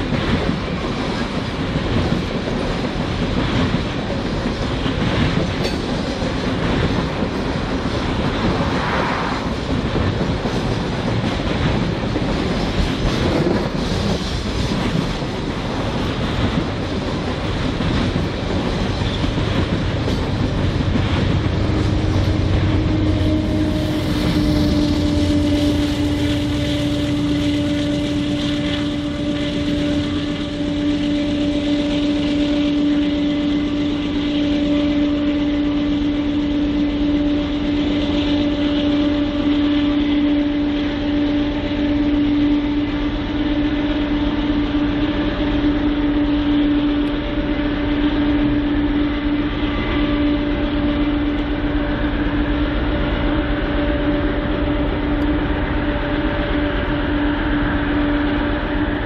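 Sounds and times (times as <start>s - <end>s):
diesel locomotive drone: 0.0s - 59.0s
rumble of rail cars: 0.0s - 59.0s
train moving on rails: 0.0s - 59.0s.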